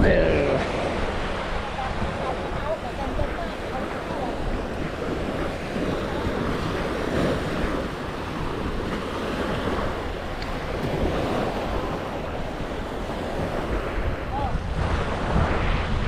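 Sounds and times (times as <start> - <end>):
waves washing onto shore: 0.0 - 16.0
wind buffeting microphone: 0.0 - 16.0.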